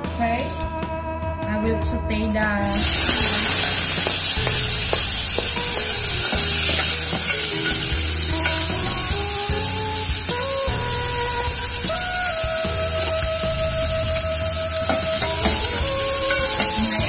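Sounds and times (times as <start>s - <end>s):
onions sizzling in hot oil: 2.6s - 17.0s
utensil scraping a pot: 2.6s - 17.0s.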